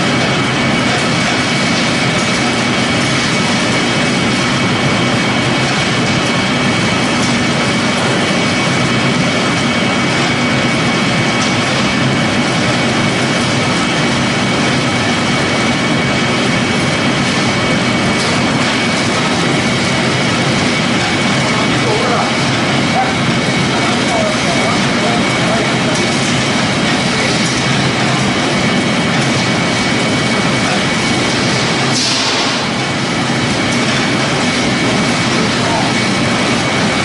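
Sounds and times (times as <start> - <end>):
constant high whine: 0.0 - 37.0
machinery running: 0.0 - 37.0.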